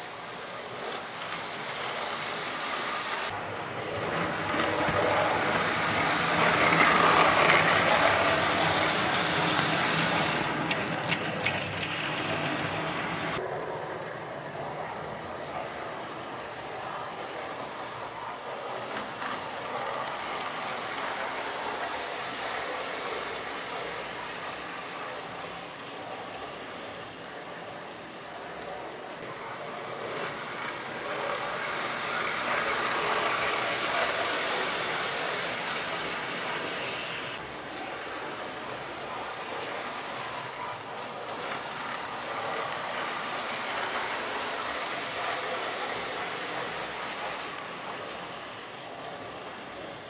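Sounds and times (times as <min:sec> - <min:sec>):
model train whirring on rails: 0:00.0 - 0:50.0.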